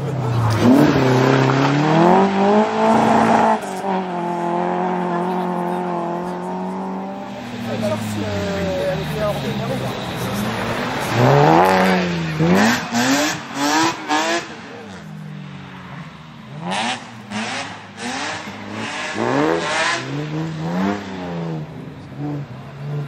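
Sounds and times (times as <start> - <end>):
car engine revving hard: 0.0 - 15.2, 16.4 - 23.0.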